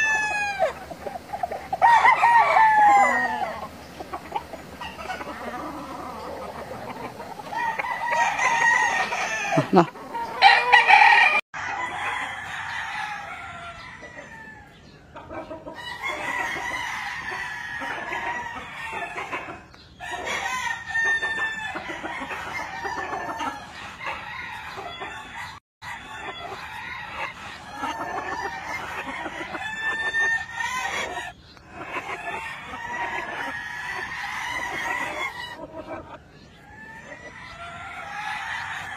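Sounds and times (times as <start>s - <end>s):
chickens clucking: 0.0s - 38.9s
roosters crowing: 0.0s - 38.9s.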